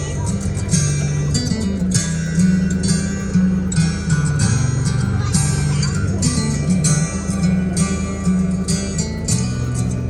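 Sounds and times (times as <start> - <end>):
guitar music with bass and beat: 0.0 - 10.0.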